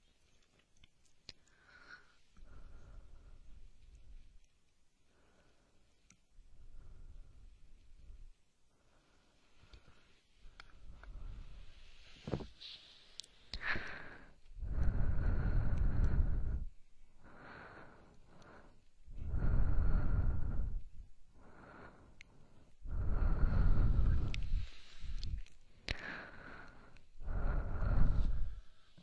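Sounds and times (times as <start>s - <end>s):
heavy breathing at microphone: 1.4s - 3.6s, 6.5s - 29.0s.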